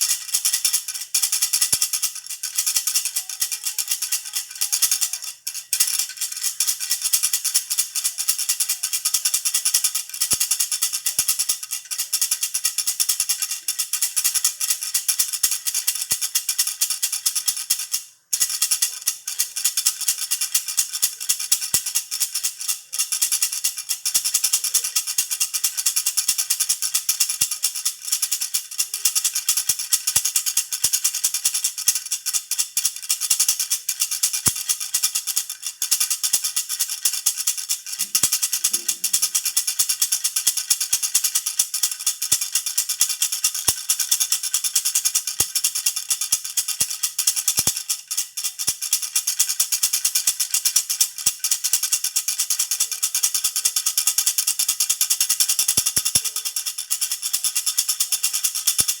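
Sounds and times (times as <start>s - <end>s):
baby rattle shaken: 0.0s - 59.0s.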